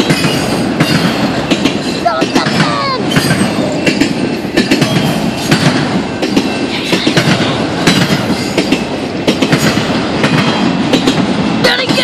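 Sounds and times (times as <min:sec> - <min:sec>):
train rumble: 0:00.0 - 0:12.0
train wheels clattering over rail joints: 0:00.0 - 0:12.0.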